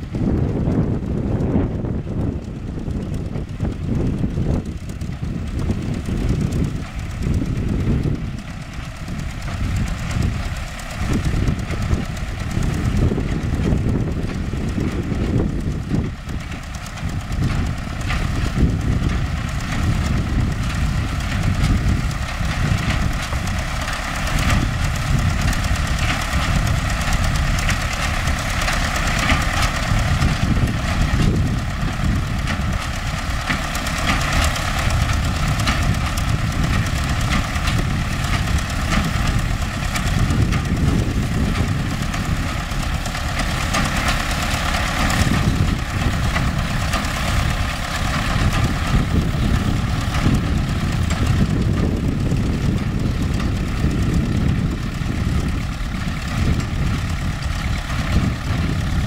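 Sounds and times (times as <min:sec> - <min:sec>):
machinery whine: 0:00.0 - 0:59.0
tractor diesel engine running: 0:00.0 - 0:59.0.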